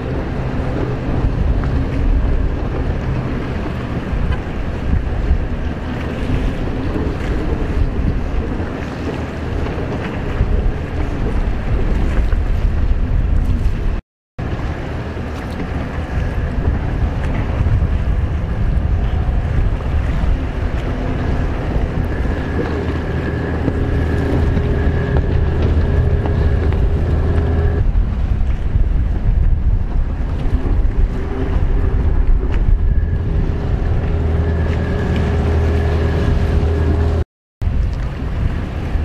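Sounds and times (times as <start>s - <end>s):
jet ski engine whine: 0.0s - 12.6s, 14.4s - 39.0s
wind buffeting microphone: 0.0s - 39.0s.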